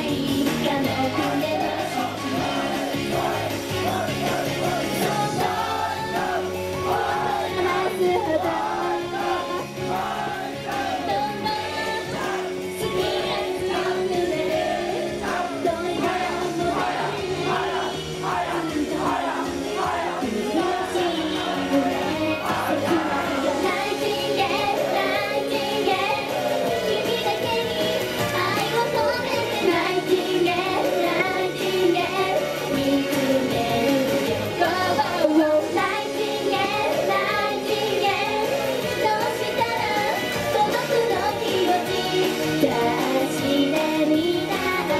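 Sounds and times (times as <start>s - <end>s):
women singing into microphones: 0.0s - 2.8s, 5.0s - 9.6s, 10.2s - 44.9s
pop song over loudspeakers: 0.0s - 44.9s.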